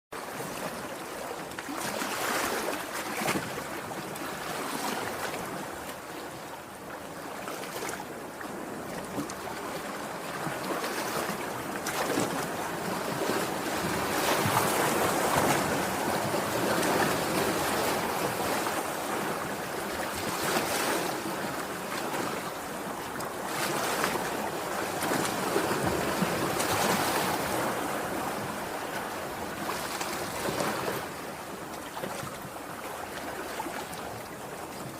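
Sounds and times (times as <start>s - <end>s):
sea waves breaking: 0.2s - 34.9s.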